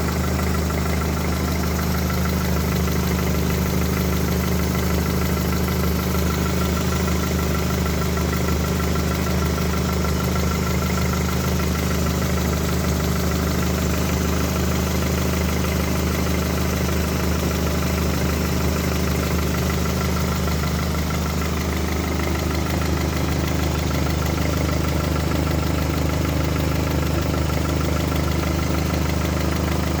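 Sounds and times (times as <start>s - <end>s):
car engine idling: 0.0s - 30.0s
strange engine noise: 0.0s - 30.0s.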